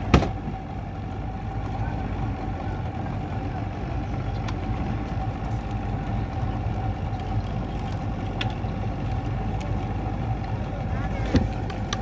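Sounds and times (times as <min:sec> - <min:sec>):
boat engine rumble: 0:00.0 - 0:12.0
constant whine: 0:00.0 - 0:12.0.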